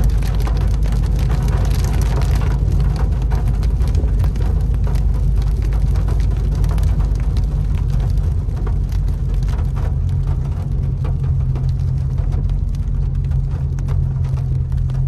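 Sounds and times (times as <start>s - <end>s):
car rumbling on road: 0.0s - 15.0s
heavy rain drumming on car roof: 0.0s - 15.0s.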